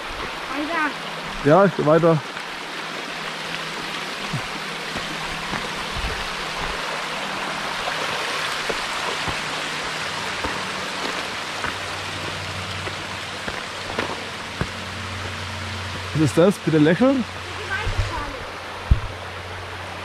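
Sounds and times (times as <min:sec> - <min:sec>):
stream rushing over cascades: 0:00.0 - 0:20.0.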